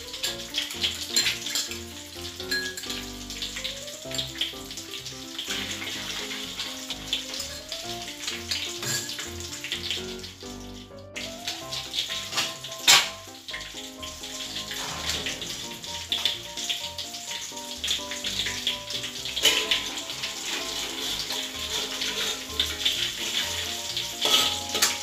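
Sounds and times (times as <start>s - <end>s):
background music: 0.0s - 25.0s
hot oil sizzling and crackling: 0.0s - 25.0s
oil popping: 0.0s - 25.0s.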